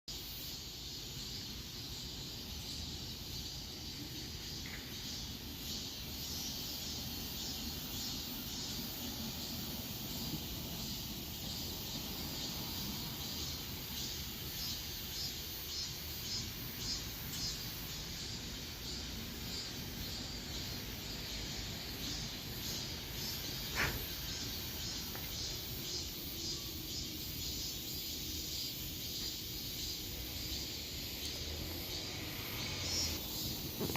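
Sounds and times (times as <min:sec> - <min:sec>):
insects chirping: 0:00.1 - 0:33.9.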